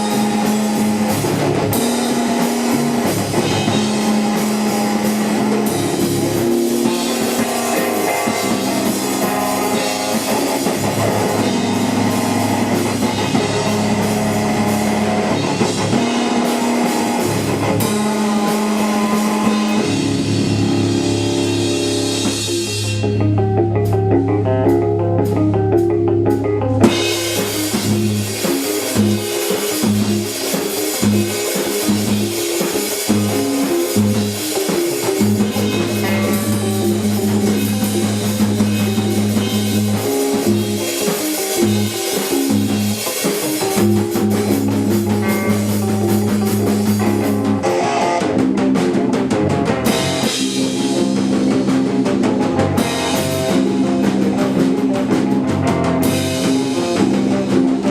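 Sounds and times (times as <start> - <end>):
bass guitar: 0.0 - 57.9
drum kit with cymbals: 0.0 - 57.9
electric guitar: 0.0 - 57.9.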